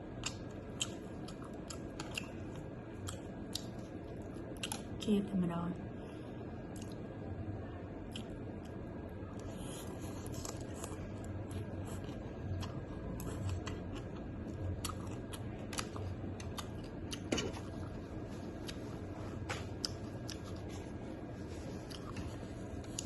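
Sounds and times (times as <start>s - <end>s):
chewing with crunches: 0.0s - 5.0s, 6.6s - 7.2s, 8.0s - 23.0s.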